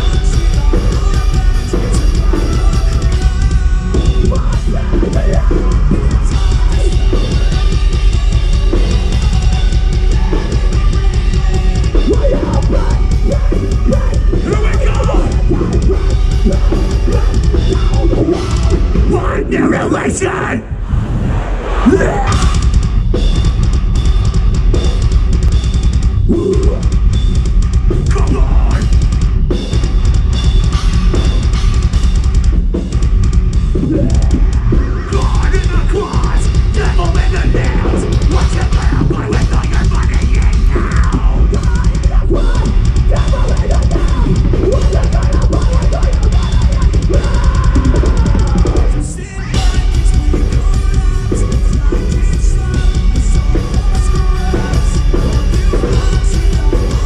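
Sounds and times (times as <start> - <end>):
heavy metal band playing live: 0.0 - 57.0
pounding drum kit: 0.0 - 57.0.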